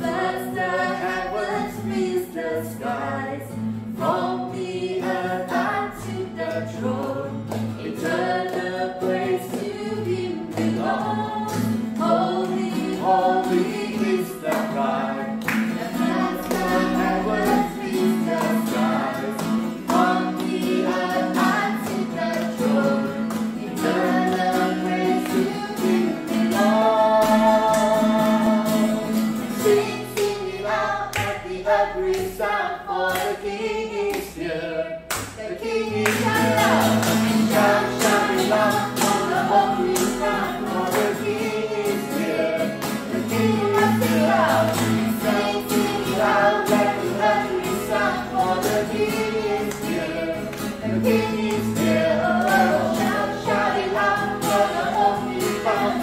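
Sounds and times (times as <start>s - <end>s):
group of voices singing: 0.0s - 56.0s.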